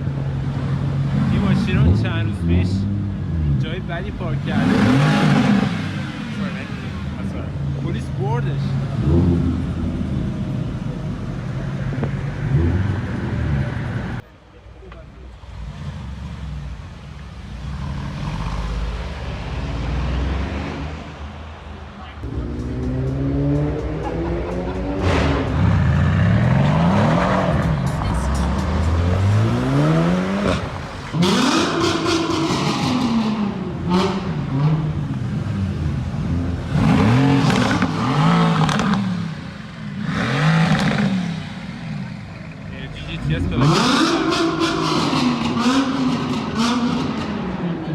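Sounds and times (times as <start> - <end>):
sports car engine revving: 0.0 - 14.2, 15.4 - 21.6, 22.2 - 47.9.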